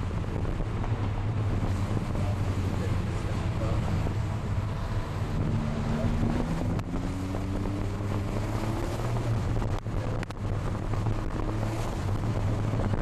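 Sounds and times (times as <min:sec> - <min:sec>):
car engine heard from inside cabin: 0:00.0 - 0:13.0
wind and road noise: 0:00.0 - 0:13.0.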